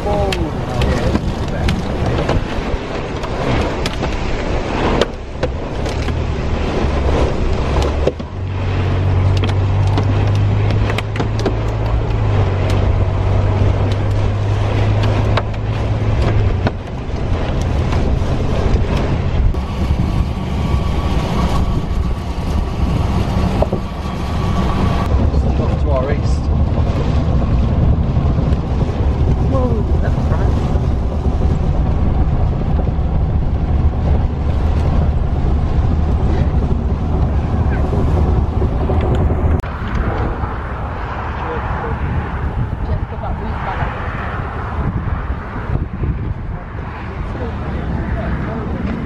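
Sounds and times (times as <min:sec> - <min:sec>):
car engine and tyre drone: 0:00.0 - 0:49.0
rushing wind noise: 0:00.0 - 0:49.0.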